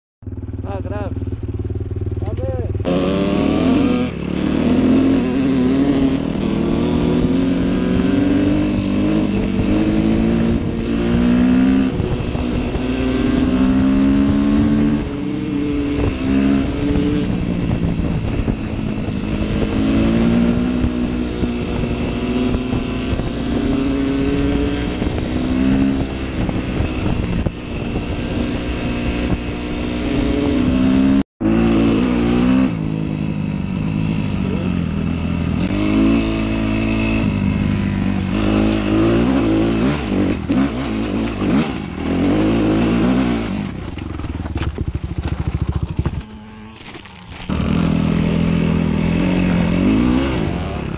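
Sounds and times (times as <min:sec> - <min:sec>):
dirt bike engine revving: 0:00.2 - 0:50.9.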